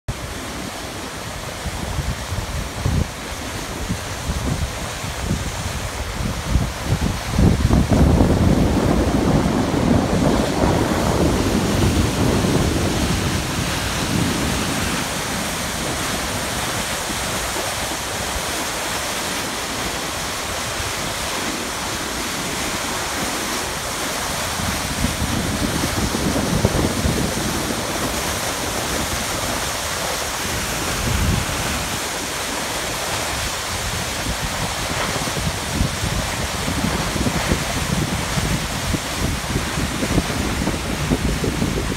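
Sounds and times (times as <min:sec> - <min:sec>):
waterfall rushing: 0:00.1 - 0:41.9
wind buffeting microphone: 0:00.1 - 0:41.9.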